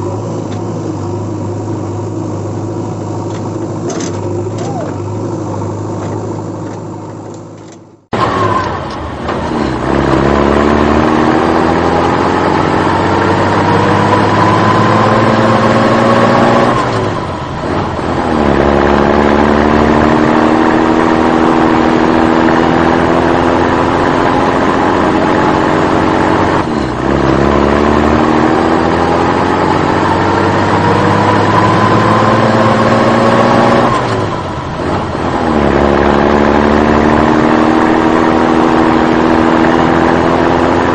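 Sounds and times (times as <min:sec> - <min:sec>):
vehicle engine accelerating: 0:00.0 - 0:40.9.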